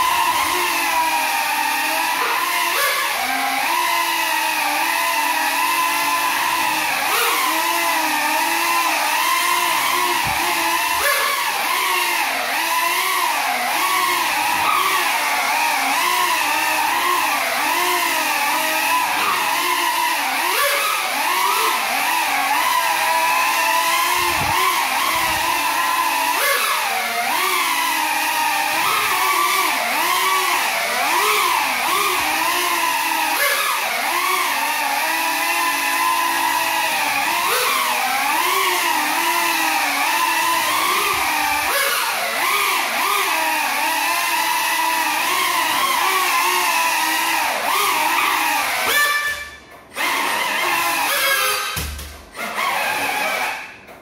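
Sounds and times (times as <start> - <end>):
quadcopter motors buzzing: 0.0 - 54.0.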